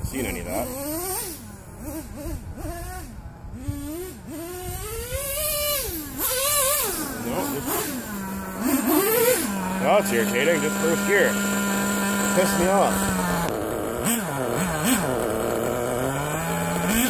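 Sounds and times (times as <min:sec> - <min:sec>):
model truck engine revving: 0:00.0 - 0:17.0.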